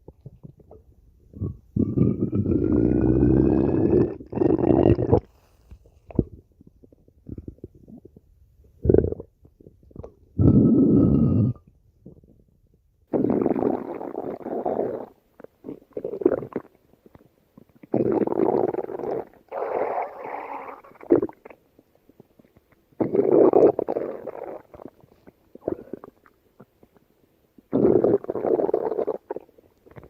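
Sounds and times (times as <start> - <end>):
stomach growling: 0.0 - 30.0.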